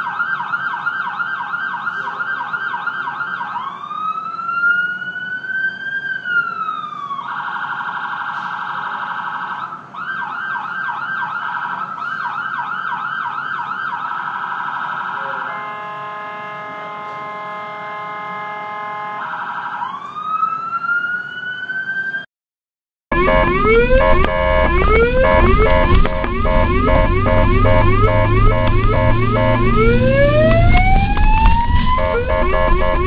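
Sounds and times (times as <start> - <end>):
ambulance siren: 0.0 - 22.3, 23.1 - 33.0.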